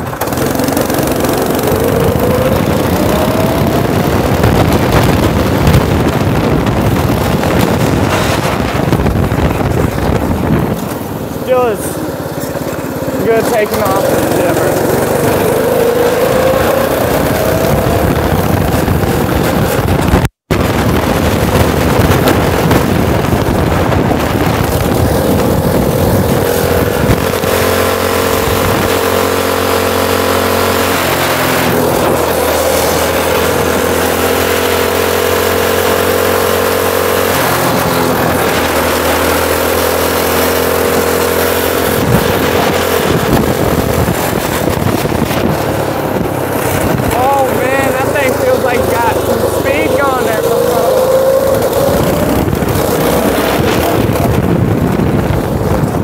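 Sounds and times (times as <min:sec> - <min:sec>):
small engine revving: 0:00.0 - 0:56.0
wind and road noise: 0:00.0 - 0:56.0.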